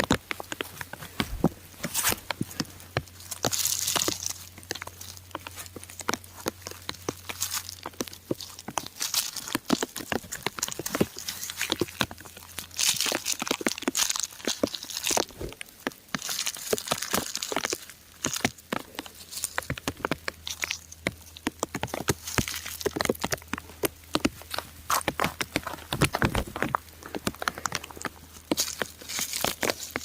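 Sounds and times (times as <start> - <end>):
raindrops pattering on rock: 0.0 - 30.0.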